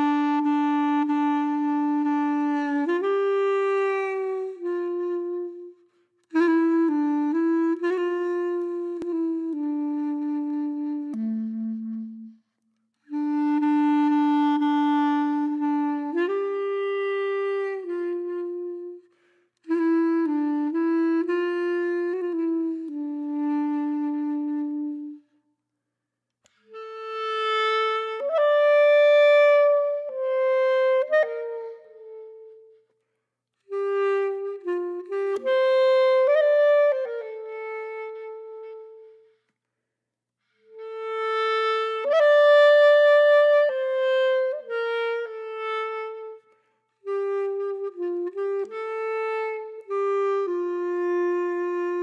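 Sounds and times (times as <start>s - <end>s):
solo woodwind melody: 0.0s - 52.0s.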